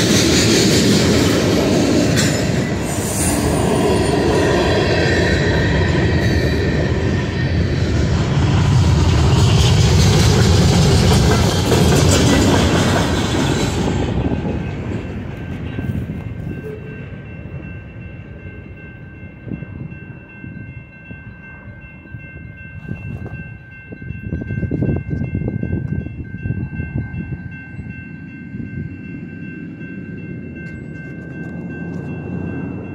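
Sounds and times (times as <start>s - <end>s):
freight train wheels rumbling: 0.0s - 32.9s.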